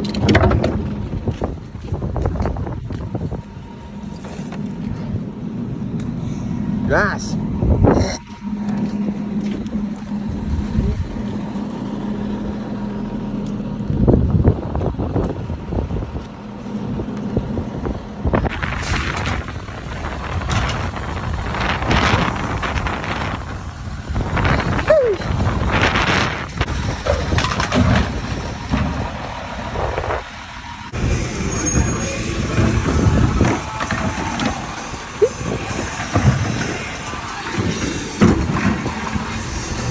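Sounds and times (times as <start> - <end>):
garbage truck running: 0.0 - 39.9
rumbling bursts: 0.0 - 39.9
vehicle engine humming: 0.0 - 39.9.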